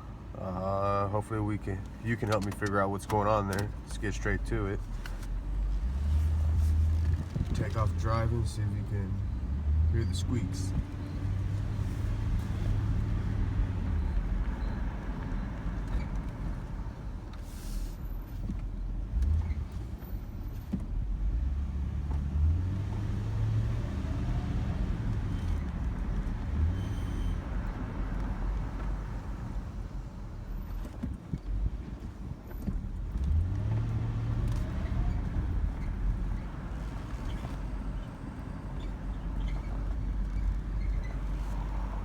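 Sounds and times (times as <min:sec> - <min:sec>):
car engine driving: 0:00.0 - 0:42.0
road noise: 0:00.0 - 0:42.0.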